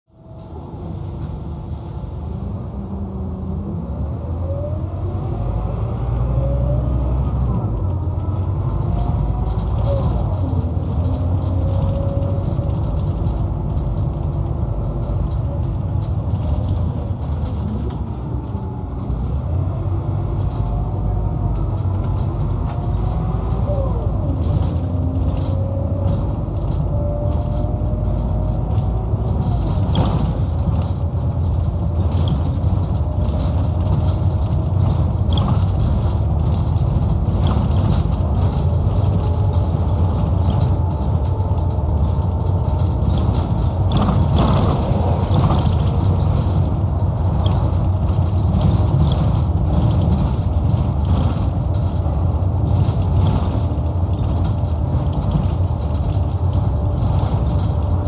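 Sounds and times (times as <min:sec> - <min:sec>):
bus engine low rumble: 0:00.0 - 0:58.0.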